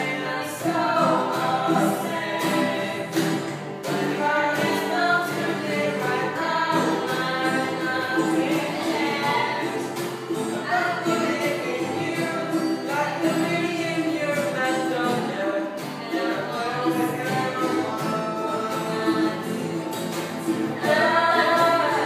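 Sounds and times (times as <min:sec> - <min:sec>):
group singing pop song: 0:00.0 - 0:22.0
strummed acoustic guitars: 0:00.0 - 0:22.0
ukulele: 0:00.0 - 0:22.0.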